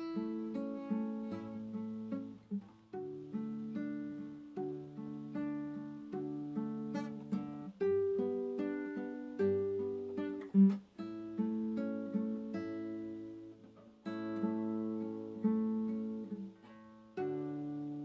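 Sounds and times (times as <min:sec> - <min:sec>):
acoustic guitar plucking: 0:00.0 - 0:18.0.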